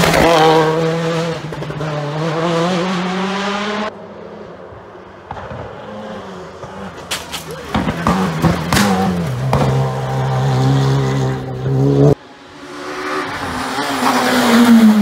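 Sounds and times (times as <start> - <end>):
distant rally car engine: 0.0 - 15.0
rally car engine passing: 0.0 - 15.0.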